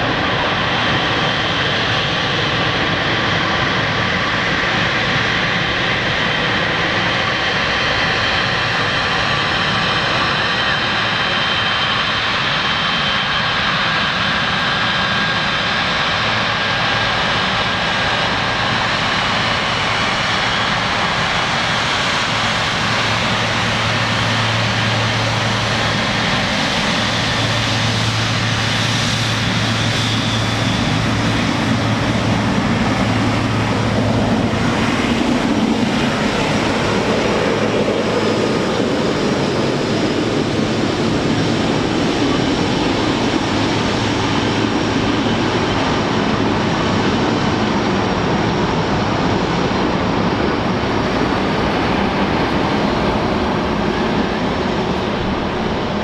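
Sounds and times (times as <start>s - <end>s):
jet engine whine: 0.0s - 56.0s.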